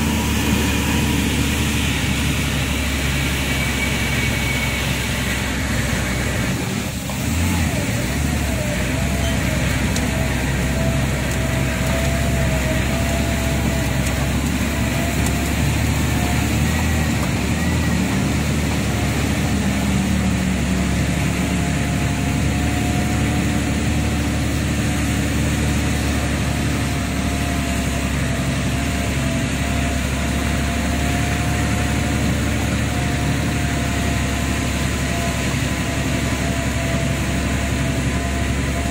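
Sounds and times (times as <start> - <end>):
lorry engine running: 0.0 - 38.9.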